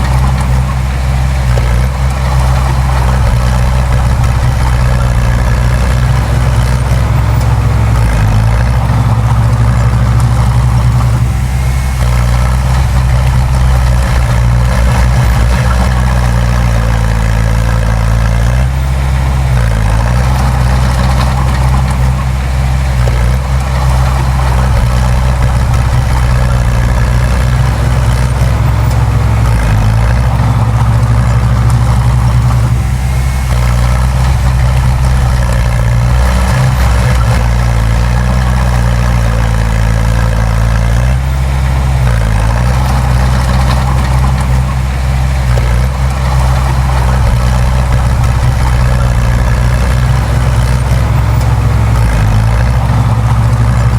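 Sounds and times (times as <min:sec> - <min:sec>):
heavy diesel engine under load: 0:00.0 - 0:53.9.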